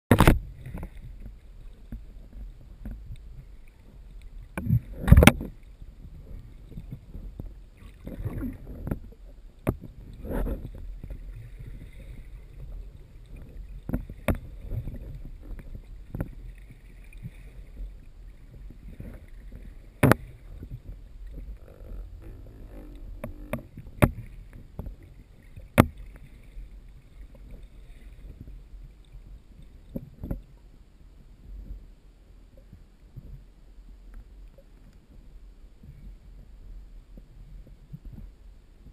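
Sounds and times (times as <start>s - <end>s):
underwater low rumble: 0.1s - 38.9s.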